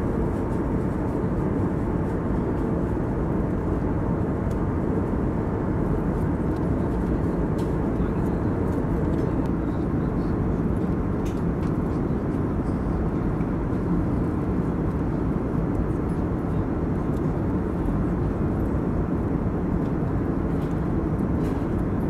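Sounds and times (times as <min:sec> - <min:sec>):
airplane cabin engine noise: 0:00.0 - 0:22.0.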